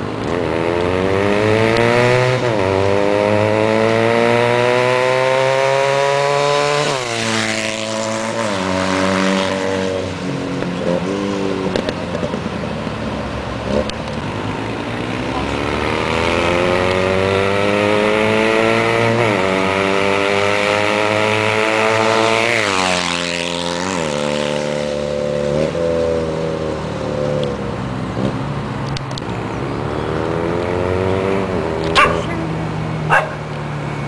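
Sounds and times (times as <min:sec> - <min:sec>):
motorcycle accelerating: 0:00.0 - 0:34.0.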